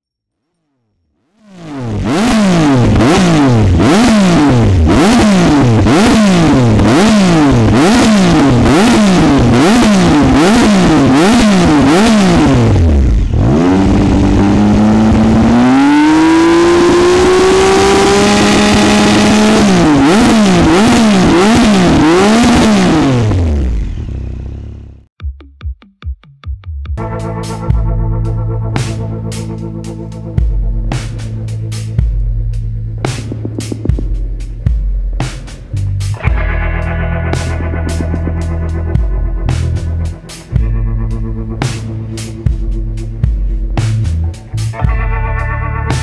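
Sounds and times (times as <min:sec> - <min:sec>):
motorcycle engine revving: 0:00.4 - 0:25.1, 0:27.0 - 0:46.0.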